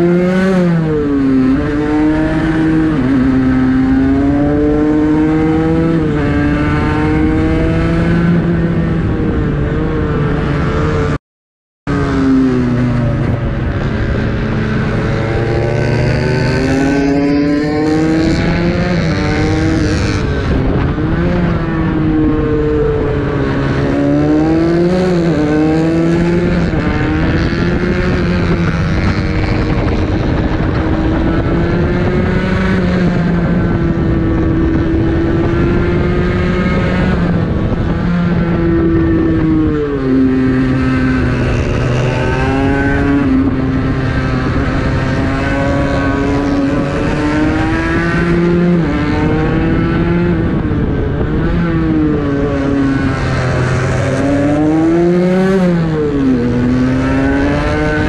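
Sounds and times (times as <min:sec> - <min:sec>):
motorcycle engine revving: 0:00.0 - 0:11.2, 0:11.9 - 0:58.0
wind rush on microphone: 0:00.0 - 0:11.2, 0:11.9 - 0:58.0.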